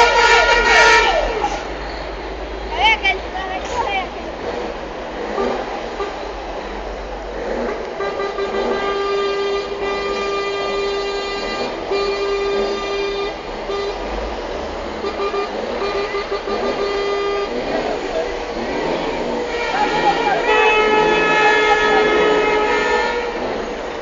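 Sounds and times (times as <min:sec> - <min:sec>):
truck horn blasts: 0:00.0 - 0:01.8, 0:05.2 - 0:06.4, 0:07.4 - 0:24.0
street noise: 0:00.0 - 0:24.0.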